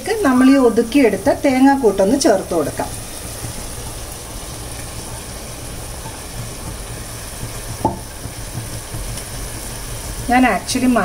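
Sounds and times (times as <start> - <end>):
food frying in a pan: 0.0 - 11.0.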